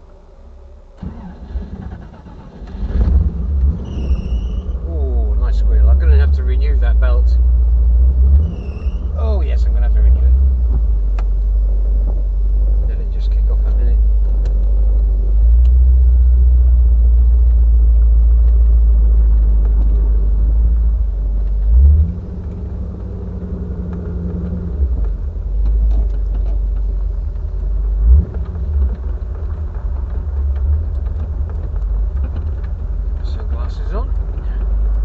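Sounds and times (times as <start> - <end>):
car engine driving: 0.0 - 35.0
road rumble: 0.0 - 35.0.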